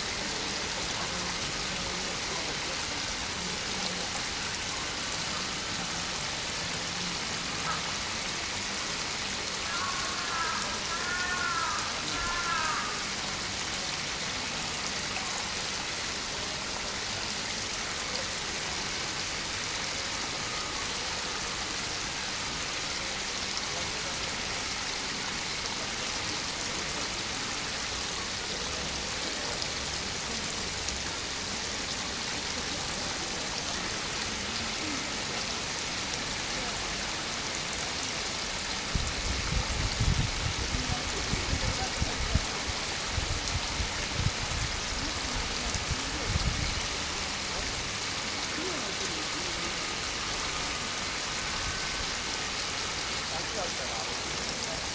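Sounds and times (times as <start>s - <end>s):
spring water flowing and splashing: 0.0s - 54.9s.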